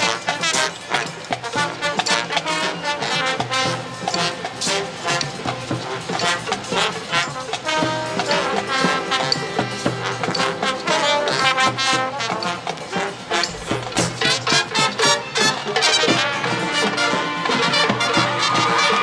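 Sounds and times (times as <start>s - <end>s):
brass carrying the tune: 0.0s - 19.0s
drumline beat: 0.0s - 19.0s
marching band playing: 0.0s - 19.0s.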